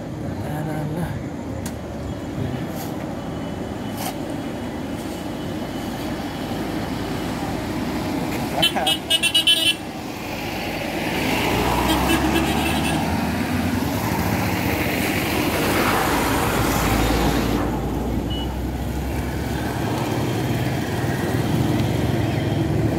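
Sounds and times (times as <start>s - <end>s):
heavy vehicle engines rumbling: 0.0s - 22.9s
traffic noise: 0.0s - 22.9s.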